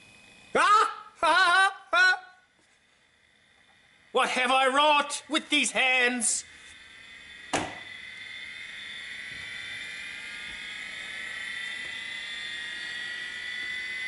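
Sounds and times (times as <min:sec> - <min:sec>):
hard disk motor whine: 0:00.0 - 0:14.0.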